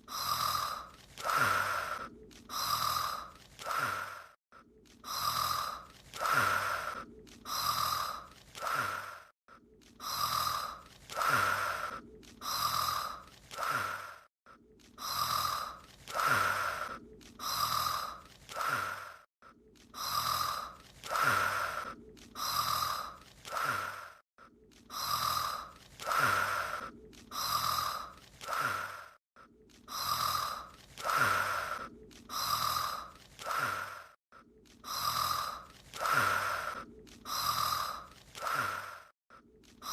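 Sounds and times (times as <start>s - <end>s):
character snoring: 0.0s - 14.3s, 14.9s - 19.3s, 19.9s - 24.2s, 24.9s - 29.2s, 29.8s - 39.9s.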